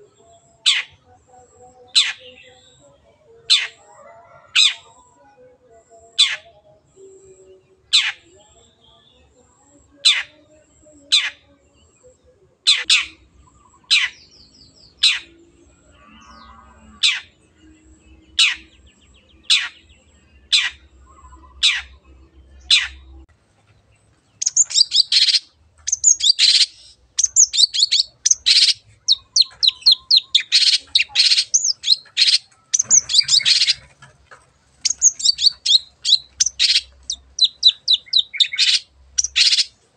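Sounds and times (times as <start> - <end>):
bird chattering song: 0.0 - 3.9, 6.0 - 9.3, 10.0 - 15.4, 16.0 - 23.2, 23.8 - 39.9.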